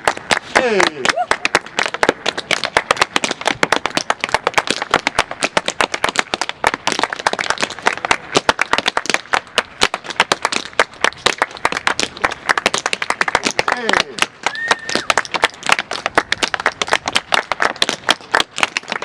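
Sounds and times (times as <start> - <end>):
tap shoes on wooden board: 0.0 - 19.0.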